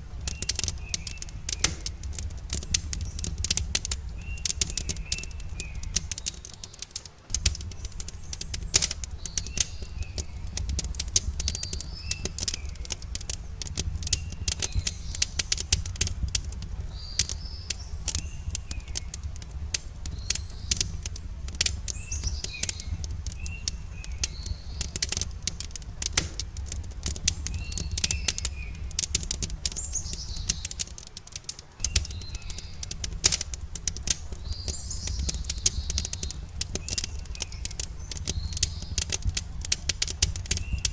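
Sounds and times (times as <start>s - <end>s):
campfire crackling and popping: 0.0s - 40.9s
birds chirping: 0.2s - 40.9s
low steady rumble: 7.2s - 40.9s.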